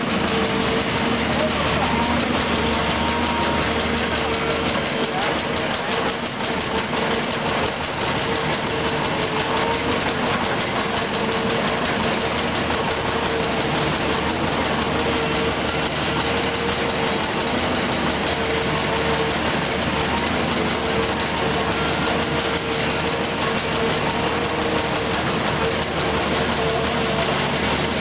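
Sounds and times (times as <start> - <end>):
excavator diesel engine running: 0.0 - 28.0
steady whining tone: 0.0 - 28.0.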